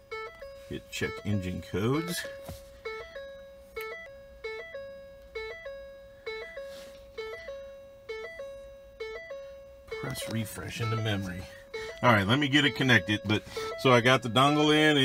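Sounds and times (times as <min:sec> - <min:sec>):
car warning chime dinging: 0:00.0 - 0:15.0.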